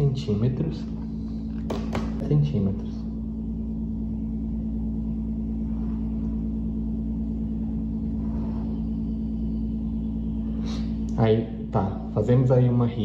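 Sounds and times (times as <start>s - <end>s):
low hum with held tones: 0.0s - 13.0s.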